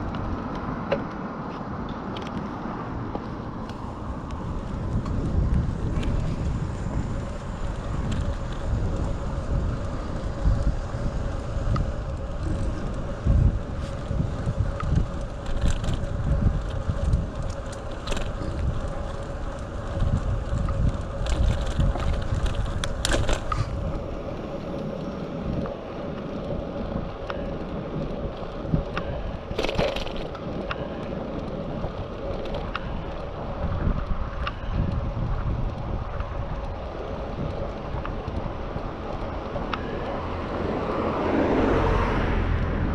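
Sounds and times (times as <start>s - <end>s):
sharp clicks from bicycle: 0.0s - 41.8s
wind buffeting microphone: 0.0s - 42.9s.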